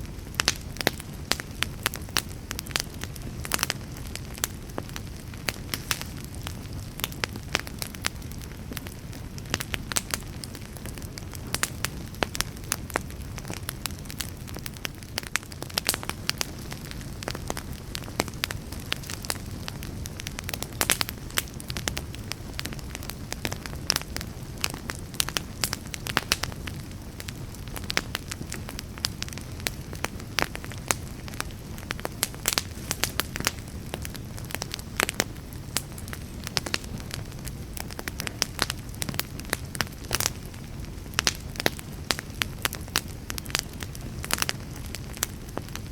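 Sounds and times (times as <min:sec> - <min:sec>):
fire flames rumbling: 0:00.0 - 0:45.9
wood fire crackling and popping: 0:00.0 - 0:45.9.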